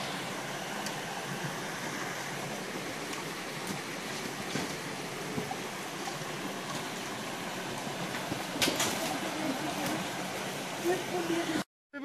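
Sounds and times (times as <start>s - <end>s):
stream running over rocks: 0.0s - 11.7s.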